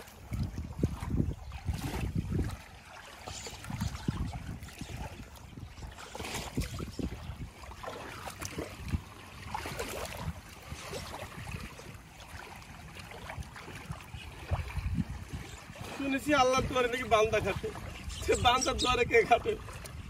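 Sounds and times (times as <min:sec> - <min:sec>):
shallow water swishing and lapping: 0:00.0 - 0:20.0
wind buffeting microphone: 0:00.0 - 0:20.0.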